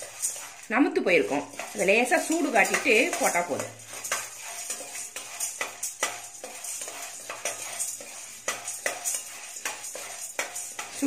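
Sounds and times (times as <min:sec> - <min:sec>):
gram rattling in steel pan: 0:00.0 - 0:11.0.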